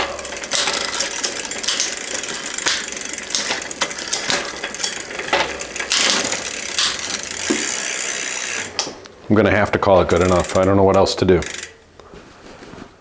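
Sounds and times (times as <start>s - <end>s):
chain rasping on derailleur: 0.0s - 8.9s, 10.1s - 11.8s
bicycle chain clicking: 0.0s - 9.0s, 9.6s - 11.9s.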